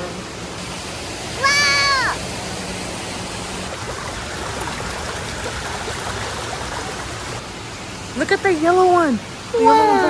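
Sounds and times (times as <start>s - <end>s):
fountain water splashing: 0.2s - 10.0s.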